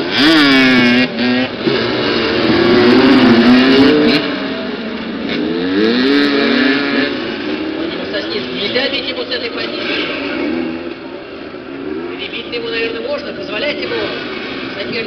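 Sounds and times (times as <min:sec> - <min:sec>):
motorcycles revving: 0:00.0 - 0:15.0.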